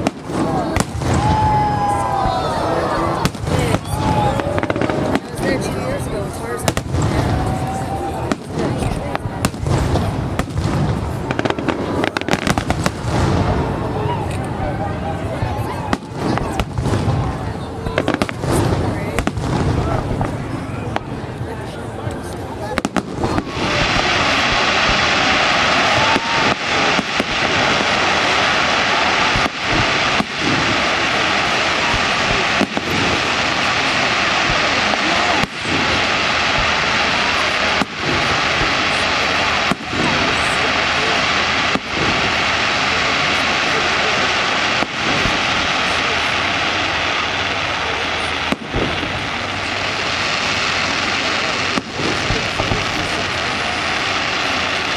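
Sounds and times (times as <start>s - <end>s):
fireworks crackling: 0.0s - 54.9s.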